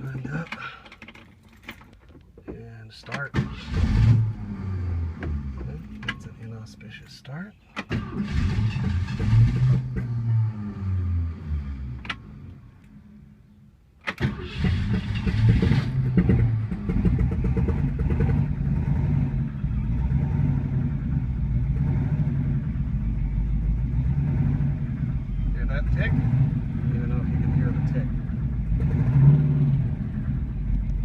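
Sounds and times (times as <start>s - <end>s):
car engine starting and idling: 0.0s - 31.0s.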